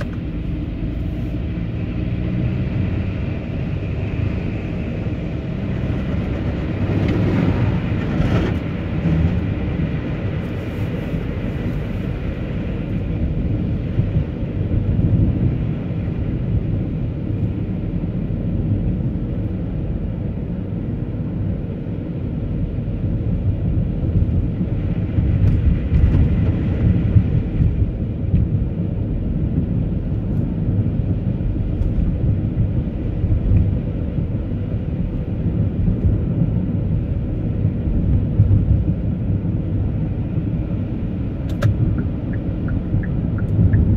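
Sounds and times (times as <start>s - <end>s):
vehicle driving on snow: 0.0s - 43.9s.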